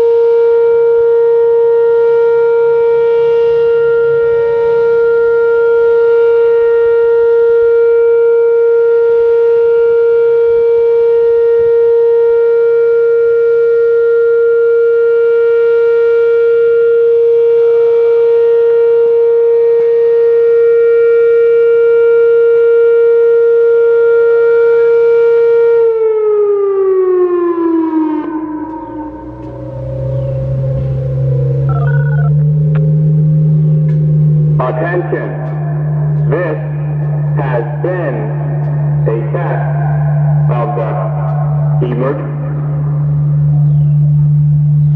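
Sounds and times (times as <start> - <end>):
warning siren steady tone: 0.0 - 44.9.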